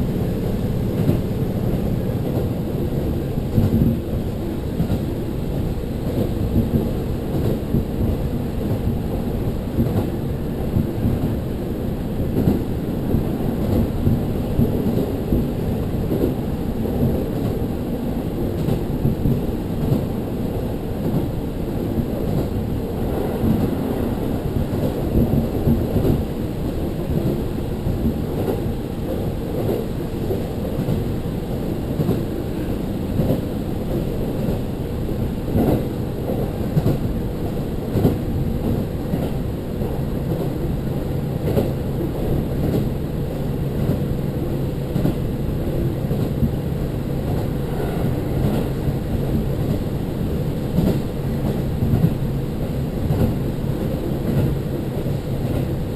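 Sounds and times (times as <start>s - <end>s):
railcar wheels rumbling on rail: 0.0s - 55.9s.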